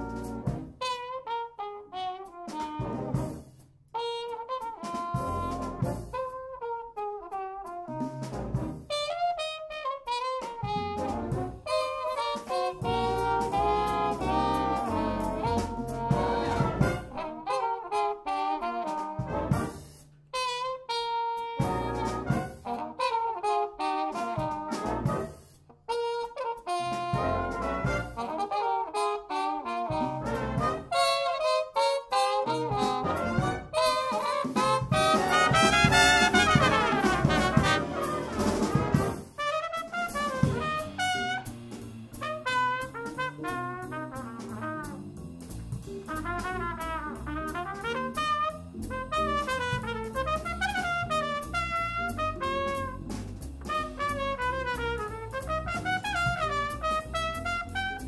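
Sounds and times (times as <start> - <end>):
muted trumpets: 0.0 - 3.3, 4.0 - 45.0, 46.2 - 53.1, 53.7 - 58.0
trombones: 0.0 - 58.0.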